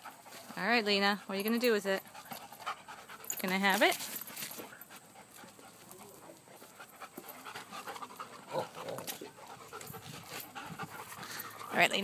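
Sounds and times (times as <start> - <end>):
dog panting softly: 0.0 - 12.0.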